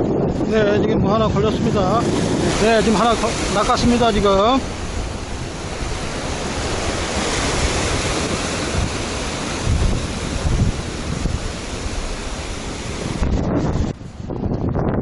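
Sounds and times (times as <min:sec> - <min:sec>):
surf breaking over rocks: 0:00.0 - 0:14.9
wind buffeting microphone: 0:00.0 - 0:15.0.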